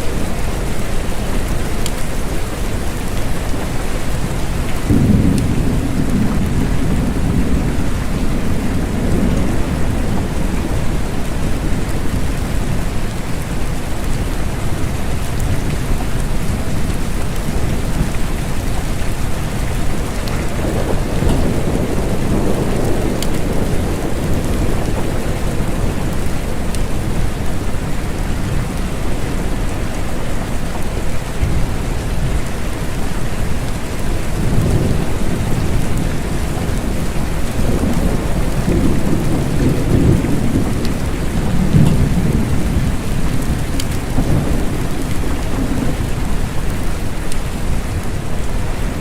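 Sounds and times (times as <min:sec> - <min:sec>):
steady rain falling: 0:00.0 - 0:49.0
low rolling thunder: 0:00.1 - 0:49.0.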